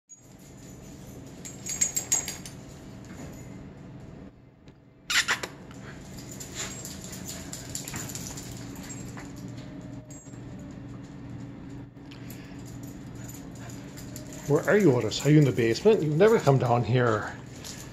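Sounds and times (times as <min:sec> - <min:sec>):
steady low hum: 0:00.2 - 0:17.9.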